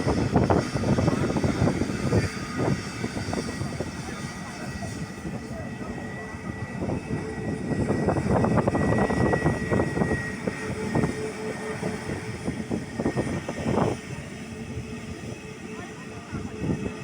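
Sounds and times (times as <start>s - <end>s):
airliner engines passing: 0.0s - 17.0s.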